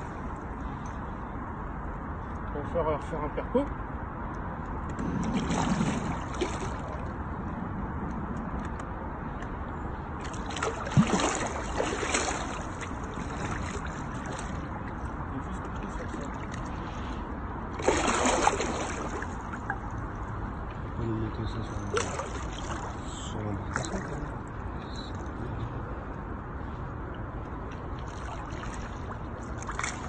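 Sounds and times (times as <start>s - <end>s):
water splashing and sloshing: 4.5s - 21.0s, 21.6s - 30.0s.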